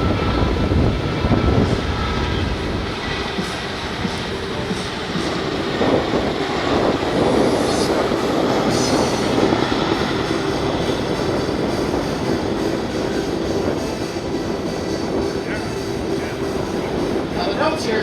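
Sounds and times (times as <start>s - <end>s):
helicopter rotors and turbines rumbling: 0.0s - 18.0s.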